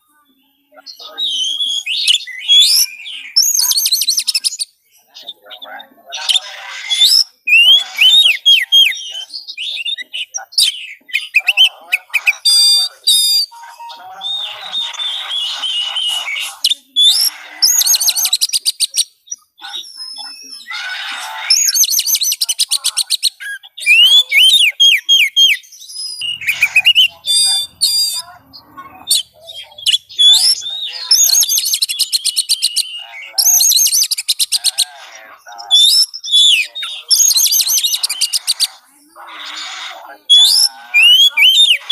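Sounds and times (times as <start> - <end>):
bird singing whistles and trills: 0.8 - 5.4, 6.9 - 20.7, 21.5 - 34.6, 35.6 - 38.7, 40.2 - 41.9.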